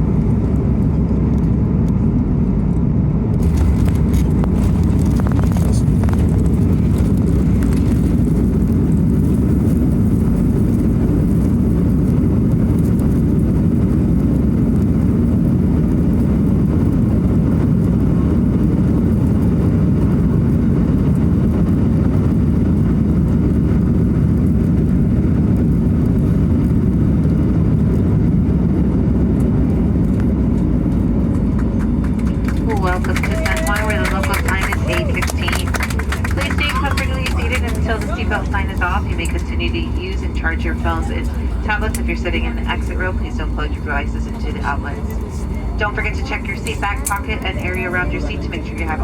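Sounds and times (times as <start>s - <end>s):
jet airliner cabin rumble: 0.0s - 49.0s.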